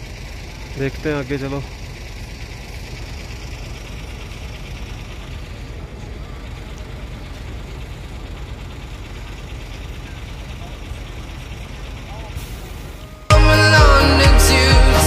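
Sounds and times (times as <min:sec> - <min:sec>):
diesel truck engines idling: 0:00.0 - 0:15.0.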